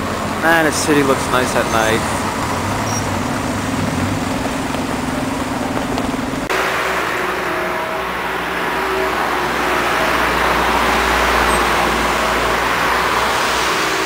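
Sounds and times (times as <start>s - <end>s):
car passing: 0.0s - 14.0s.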